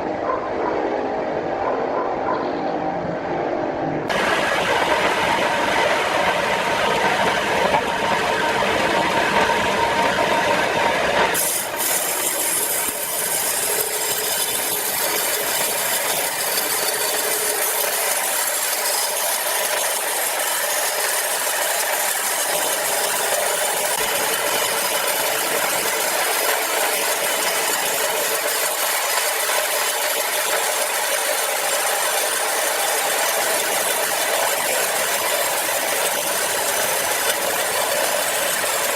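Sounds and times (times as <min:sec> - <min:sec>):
sawmill machinery sawing log: 0:04.1 - 0:38.9.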